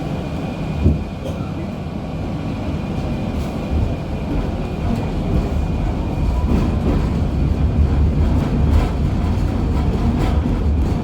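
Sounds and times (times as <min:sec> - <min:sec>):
tram rumbling along track: 0:00.0 - 0:11.0.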